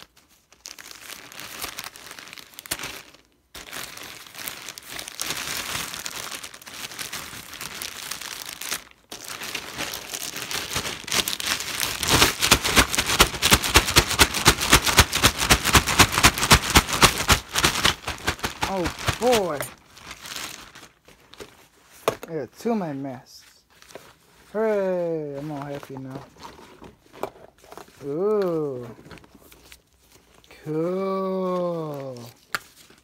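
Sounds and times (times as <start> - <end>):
paper wrapping rustling: 0.0 - 33.0
plastic bag crinkling and tearing: 0.0 - 33.0.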